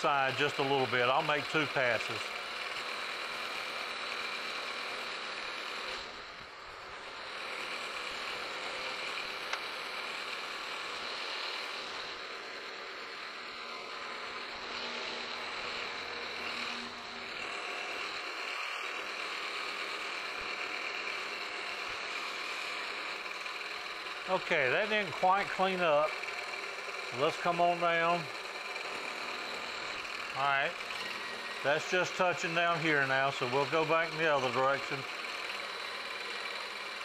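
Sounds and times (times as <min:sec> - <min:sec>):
milling machine cutting steel: 0:00.0 - 0:37.0.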